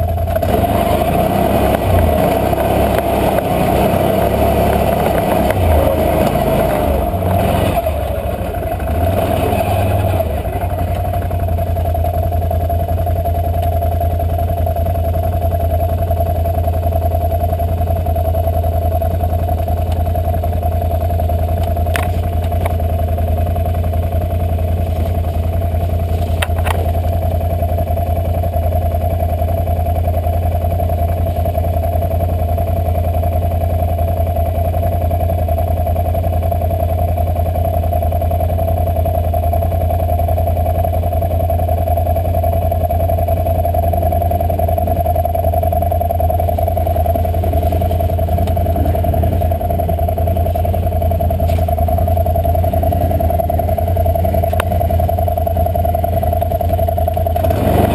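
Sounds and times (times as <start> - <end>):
atv engine idling: 0.0 - 57.9.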